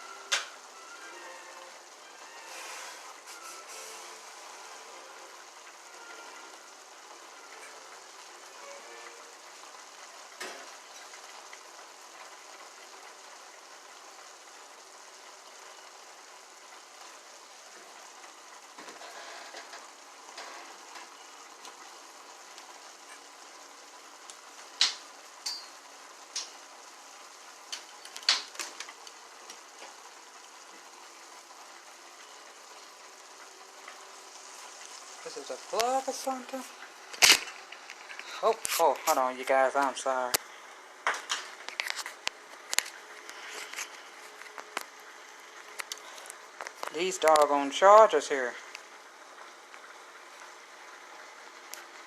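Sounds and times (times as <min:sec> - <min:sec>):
food sizzling in a pan: 0:00.0 - 0:52.0.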